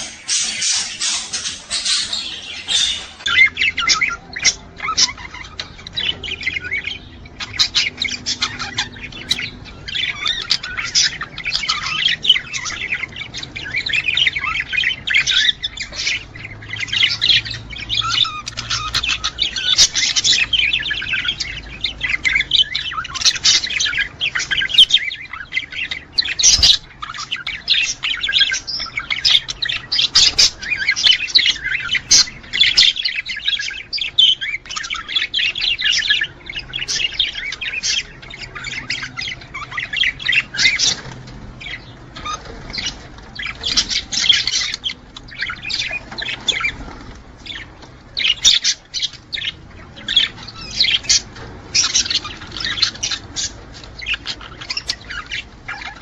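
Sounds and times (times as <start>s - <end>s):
budgerigars chattering and warbling: 0.0s - 56.0s.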